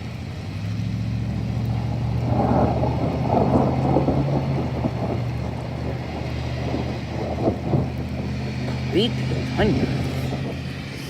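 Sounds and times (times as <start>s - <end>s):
rolling thunder: 1.6s - 11.0s.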